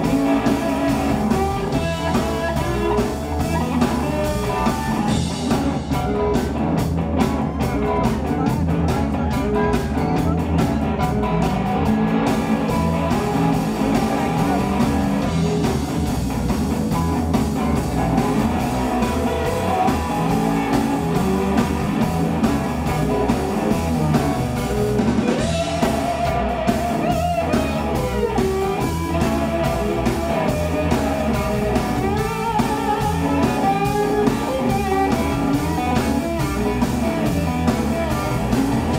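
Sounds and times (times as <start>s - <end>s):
bass guitar: 0.0s - 38.9s
drum kit: 0.0s - 38.9s
electric guitar with bent notes: 0.0s - 38.9s.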